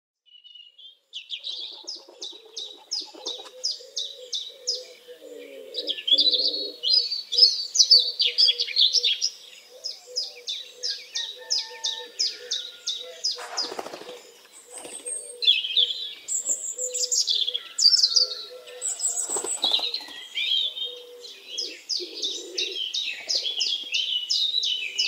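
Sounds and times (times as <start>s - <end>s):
birds chirping: 0.3s - 25.0s.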